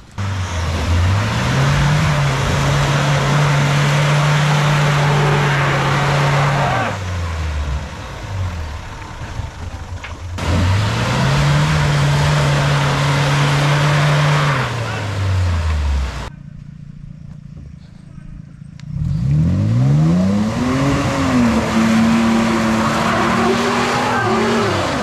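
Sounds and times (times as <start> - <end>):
pickup engine revving hard: 0.2 - 8.7, 10.4 - 16.3, 18.9 - 25.0.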